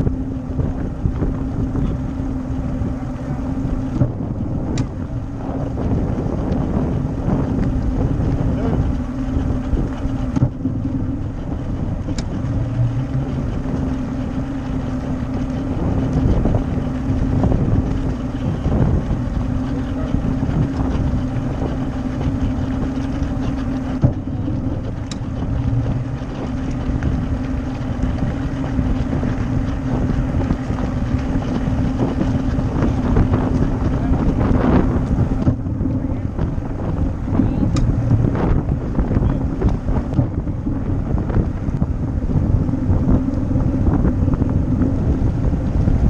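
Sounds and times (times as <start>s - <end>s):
outboard motor running: 0.0s - 46.0s
wind rumbling on microphone: 0.0s - 46.0s.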